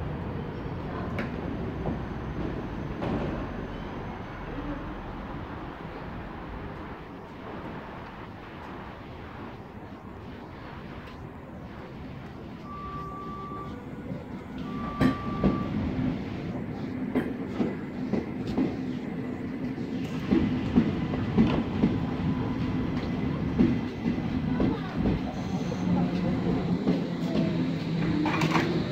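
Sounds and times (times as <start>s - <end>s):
electric train rolling past: 0.0s - 28.9s.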